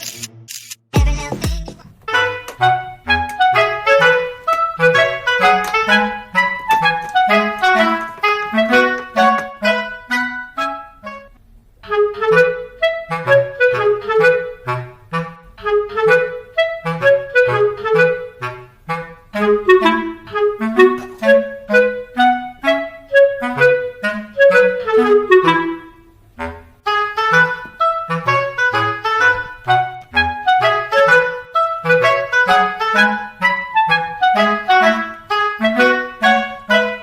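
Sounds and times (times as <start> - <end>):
instrumental melody over bass line: 1.0 - 37.0.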